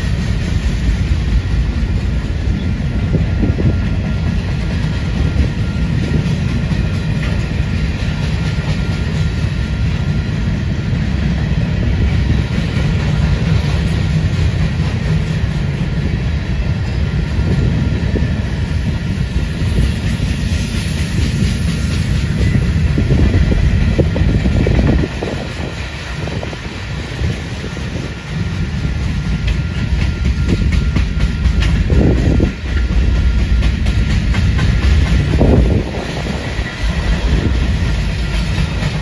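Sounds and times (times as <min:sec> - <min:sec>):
train wheels clattering on rails: 0:00.0 - 0:39.0.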